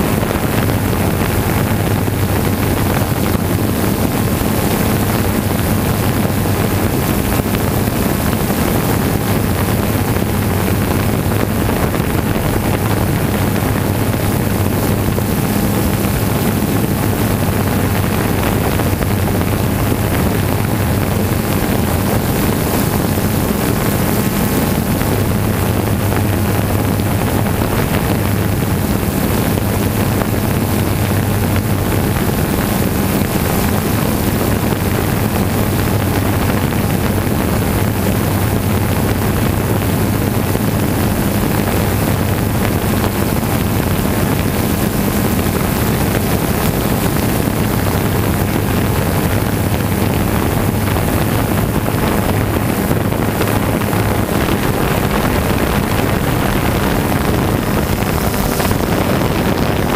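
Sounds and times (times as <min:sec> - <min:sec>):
drone propellers humming: 0:00.0 - 0:59.9
wind buffeting microphone: 0:00.0 - 0:59.9.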